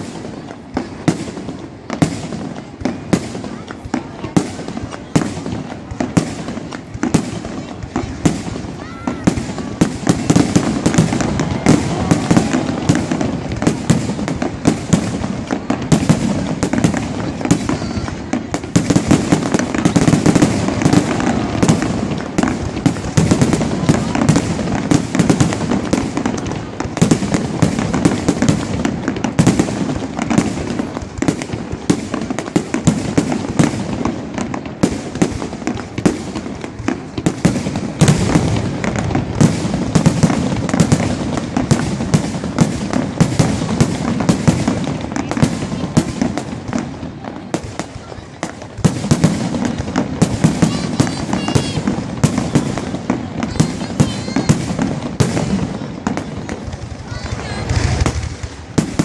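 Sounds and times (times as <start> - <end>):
crowd voices: 0.0 - 59.0
fireworks bangs and booms: 0.0 - 59.0.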